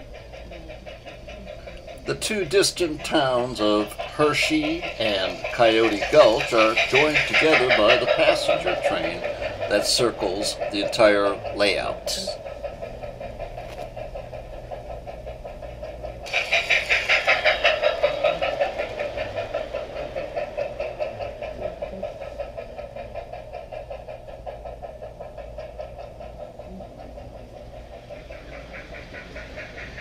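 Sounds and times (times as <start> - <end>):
model train motor hum: 0.0 - 30.0
wheels clicking on rails: 0.0 - 30.0.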